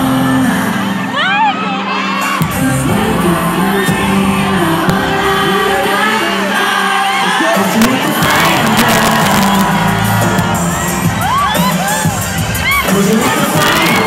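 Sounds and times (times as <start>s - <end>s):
audience shouting and cheering: 0.0s - 14.0s
live pop song male vocals: 0.0s - 14.0s.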